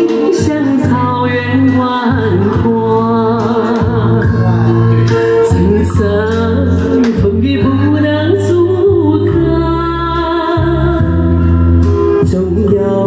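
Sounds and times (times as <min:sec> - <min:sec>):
woman and man singing duet: 0:00.0 - 0:04.6, 0:05.4 - 0:11.4, 0:12.2 - 0:13.0
music with bass and beat: 0:00.0 - 0:13.0.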